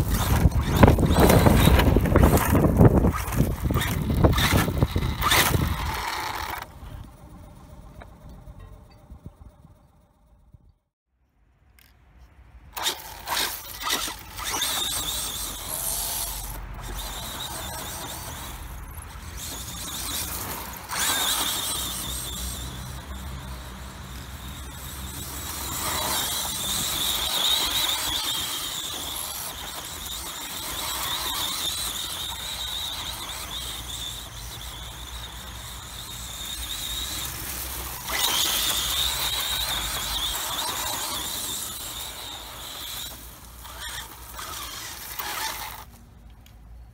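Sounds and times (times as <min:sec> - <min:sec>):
electric motor whining: 0:00.0 - 0:08.5, 0:12.8 - 0:46.0
toy car plowing through grass: 0:00.0 - 0:10.2, 0:12.6 - 0:46.9.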